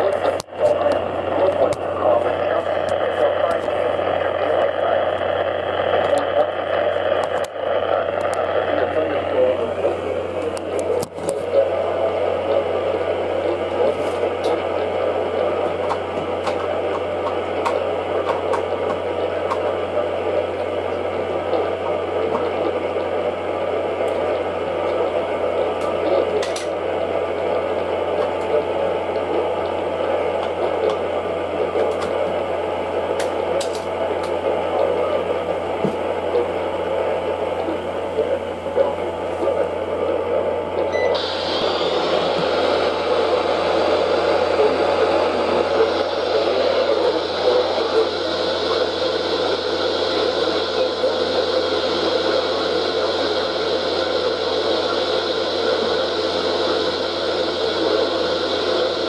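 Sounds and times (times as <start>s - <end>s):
low steady hum: 0.0s - 59.0s
radio static hiss: 0.0s - 59.0s.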